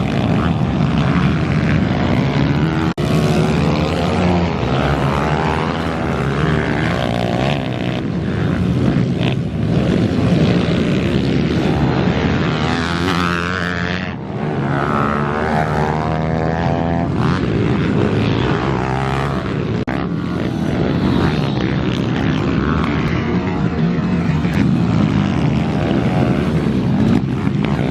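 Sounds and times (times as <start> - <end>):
pit bike engines revving: 0.0 - 27.9.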